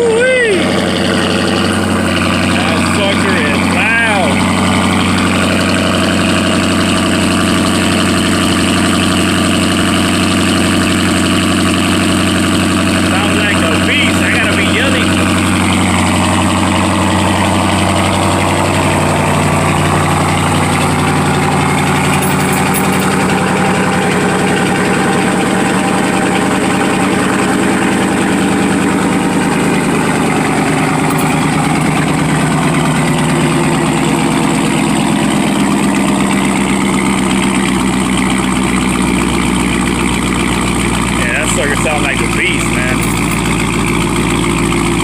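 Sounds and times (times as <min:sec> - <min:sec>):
loud car engine idling: 0:00.0 - 0:45.0.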